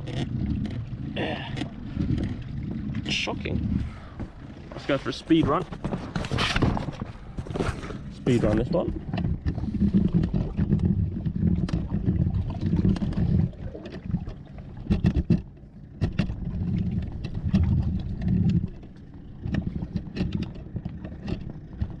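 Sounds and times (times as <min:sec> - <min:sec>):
low rumbling in surges: 0:00.0 - 0:22.0.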